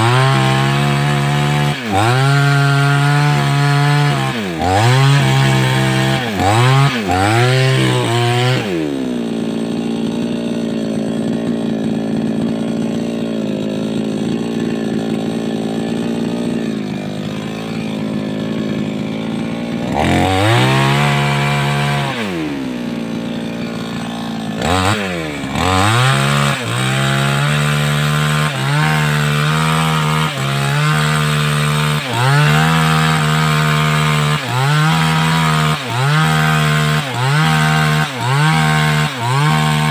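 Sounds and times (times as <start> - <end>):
chainsaw revving and cutting: 0.0 - 39.9.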